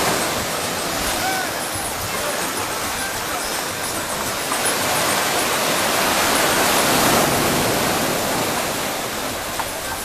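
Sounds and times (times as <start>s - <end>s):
sea surf breaking: 0.0s - 10.0s.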